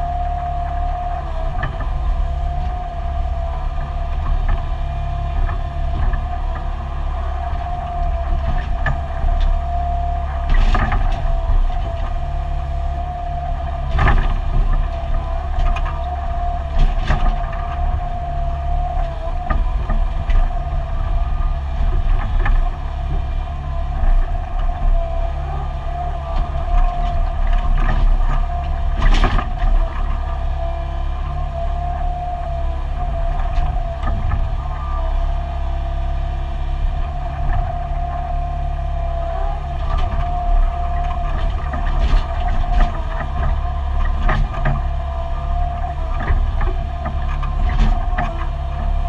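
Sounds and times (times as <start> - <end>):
diesel engine running under load: 0.0 - 49.0
steady high whine: 0.0 - 49.0.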